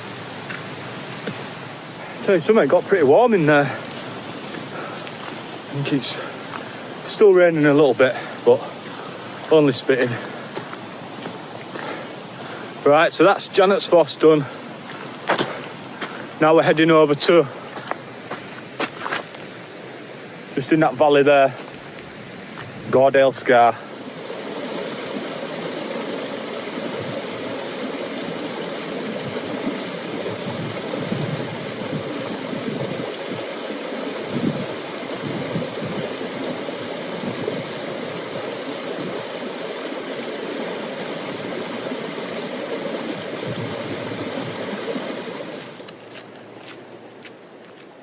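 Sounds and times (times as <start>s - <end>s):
stream rushing: 0.0s - 48.0s.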